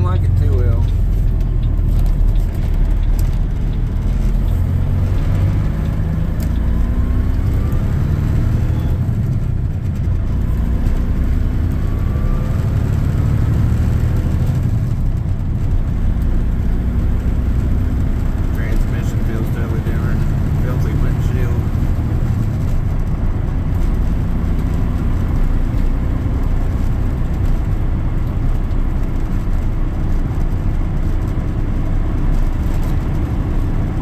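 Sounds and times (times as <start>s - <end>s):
diesel truck engine shifting gears: 0.0s - 34.0s.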